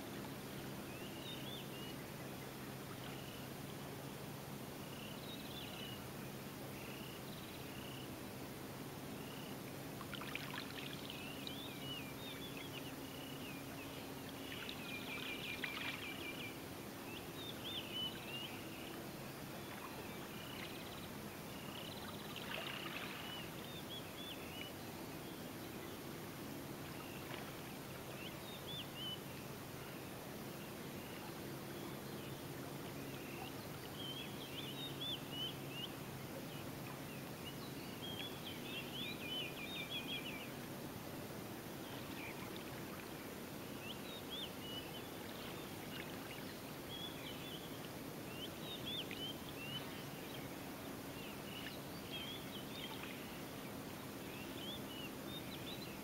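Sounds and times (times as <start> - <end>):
faint low hum: 0.0 - 56.0
birds chirping and twittering: 0.2 - 3.5, 10.2 - 26.1, 26.9 - 40.7, 41.8 - 56.0.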